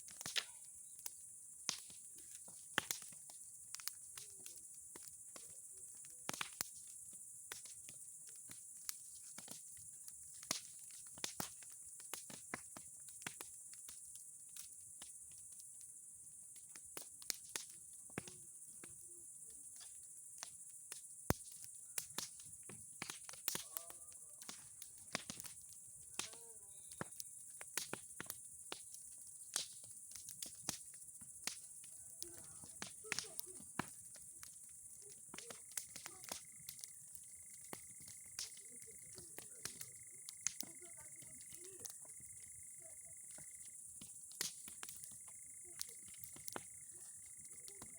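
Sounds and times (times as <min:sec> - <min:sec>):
bonfire crackling and popping: 0:00.0 - 0:47.9
crickets chirring: 0:00.0 - 0:47.9.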